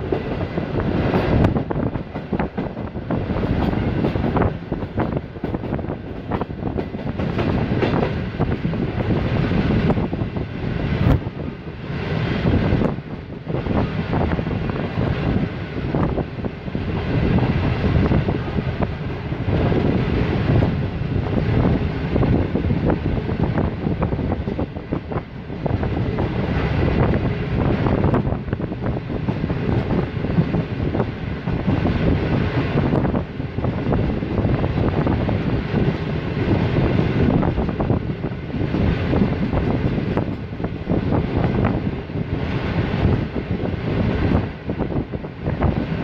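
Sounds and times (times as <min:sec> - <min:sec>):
train wheels rumbling on rails: 0:00.0 - 0:46.0
wind buffeting microphone: 0:00.0 - 0:46.0.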